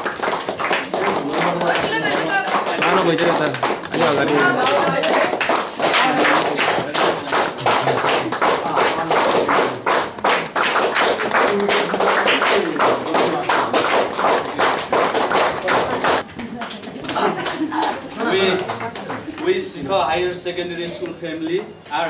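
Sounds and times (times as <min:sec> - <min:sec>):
people clapping: 0:00.0 - 0:19.6.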